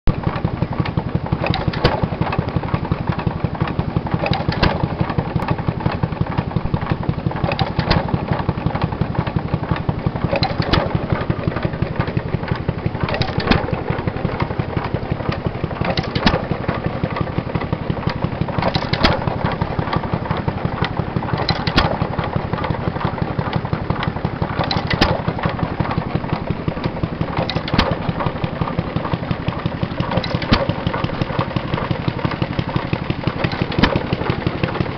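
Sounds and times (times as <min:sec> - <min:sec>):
engine firing stroke: 0:00.1 - 0:34.9
stationary engine clattering: 0:00.1 - 0:34.9.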